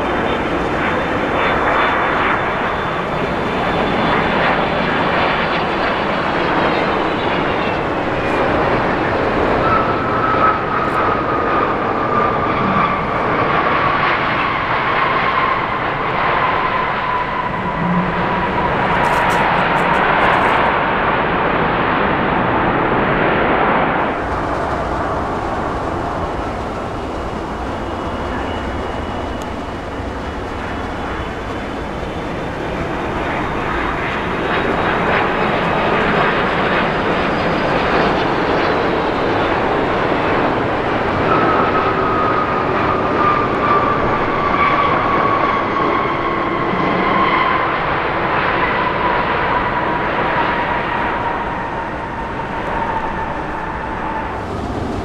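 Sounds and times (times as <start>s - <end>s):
turbine whine falling in pitch: 0.0s - 21.0s, 24.0s - 48.1s
jet airliner engines roaring: 0.0s - 55.0s.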